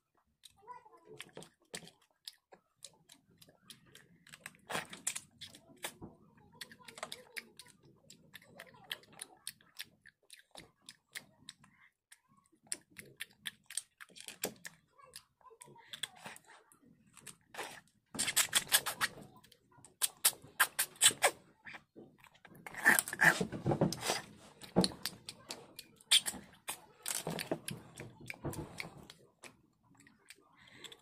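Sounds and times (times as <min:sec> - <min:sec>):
eating mouth sounds: 0:00.4 - 0:31.0.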